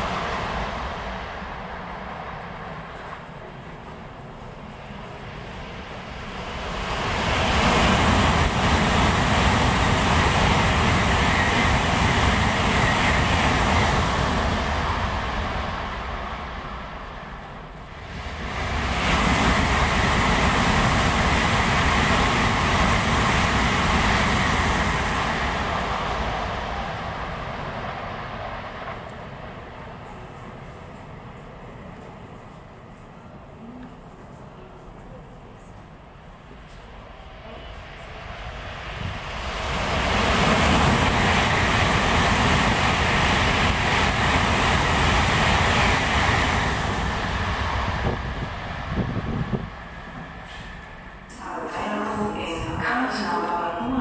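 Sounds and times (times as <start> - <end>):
high-speed train passing: 0.0 - 54.0.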